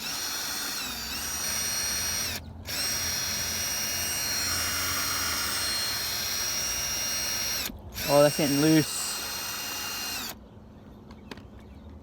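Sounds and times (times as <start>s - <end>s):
small electric drill whining: 0.0s - 10.4s.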